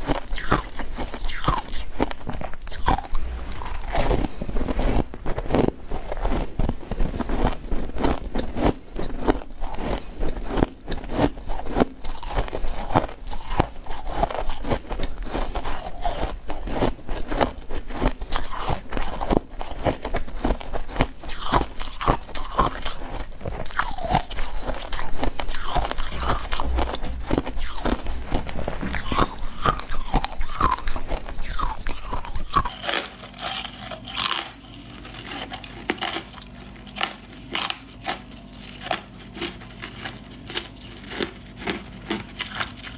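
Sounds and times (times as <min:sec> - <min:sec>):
frost being chewed: 0:00.0 - 0:42.9.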